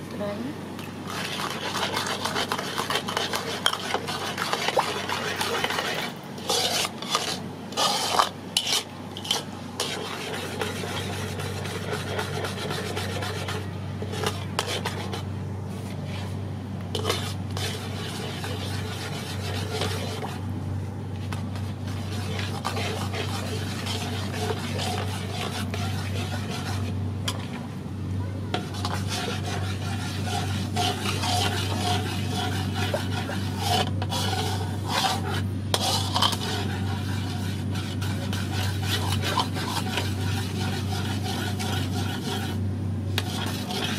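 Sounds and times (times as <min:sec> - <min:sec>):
metal ladle scraping a wok: 0:01.0 - 0:20.4, 0:21.3 - 0:27.6, 0:28.5 - 0:42.6, 0:43.2 - 0:43.9.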